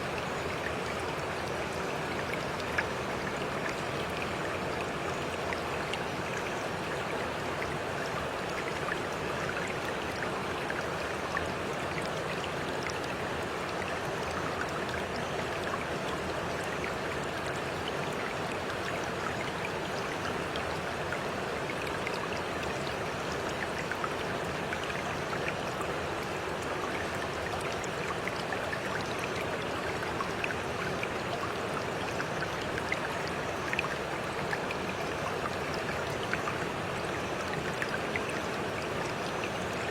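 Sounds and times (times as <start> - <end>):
stream of water running: 0.0 - 39.9
water splashes and drips: 0.0 - 39.9.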